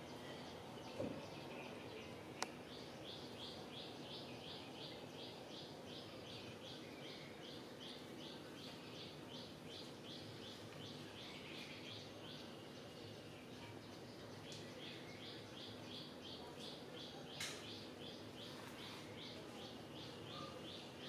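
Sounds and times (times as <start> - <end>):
bird chirping: 0.0 - 21.0
faint outdoor background noise: 0.0 - 21.0.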